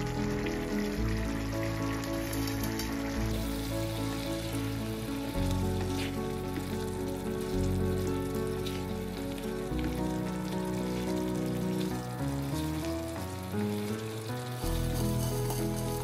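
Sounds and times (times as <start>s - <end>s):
background music: 0.0s - 16.0s
food sizzling in a pan: 0.0s - 16.0s.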